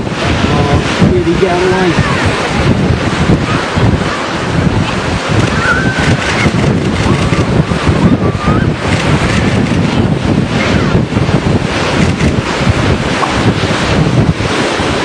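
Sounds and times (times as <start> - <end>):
surf breaking: 0.0 - 15.0
wind buffeting microphone: 0.0 - 15.0.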